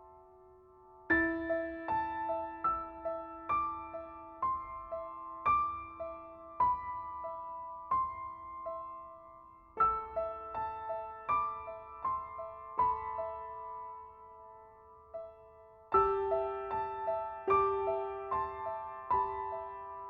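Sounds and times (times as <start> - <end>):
soft slow piano piece: 0.0 - 20.0.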